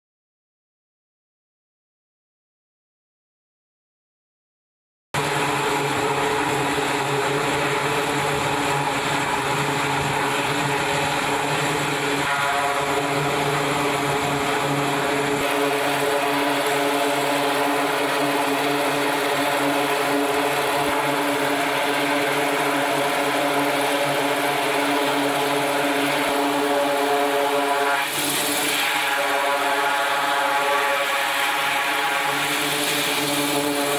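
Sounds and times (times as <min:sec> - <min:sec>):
turboprop engines droning: 0:05.2 - 0:33.9.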